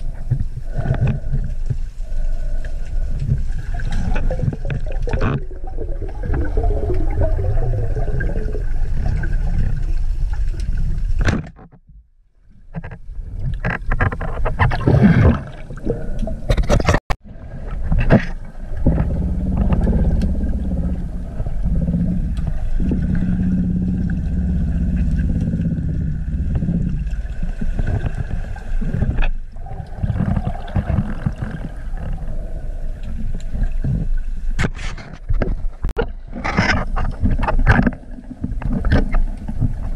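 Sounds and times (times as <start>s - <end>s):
underwater knocks and clicks: 0.0s - 12.0s, 12.6s - 32.4s, 33.0s - 39.9s
muffled underwater rumble: 0.0s - 39.9s.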